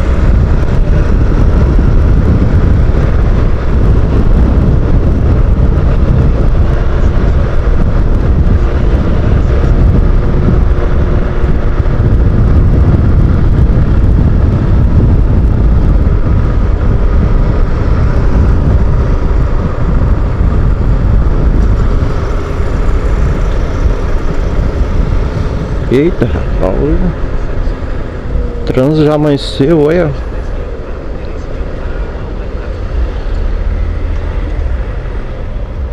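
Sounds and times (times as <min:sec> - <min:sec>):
motorcycle engine running: 0:00.0 - 0:35.9
wind rush over microphone: 0:00.0 - 0:35.9.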